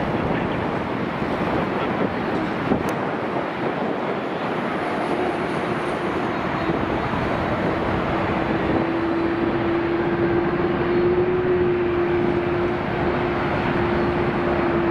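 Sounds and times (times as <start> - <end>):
jet engines rushing and droning: 0.0 - 14.9.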